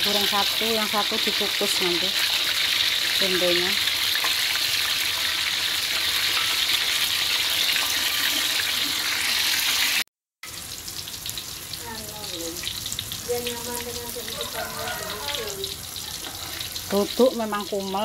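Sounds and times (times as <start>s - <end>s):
food sizzling in hot oil: 0.0s - 18.0s
oil crackling: 0.0s - 18.0s.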